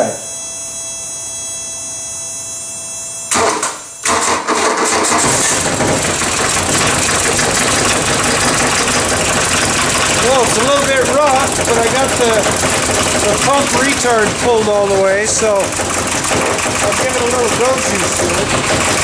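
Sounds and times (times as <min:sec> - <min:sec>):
steady electrical buzz: 0:00.0 - 0:04.2, 0:05.4 - 0:19.0
diesel engine running rough: 0:03.4 - 0:19.0
starter cranking: 0:03.4 - 0:19.0.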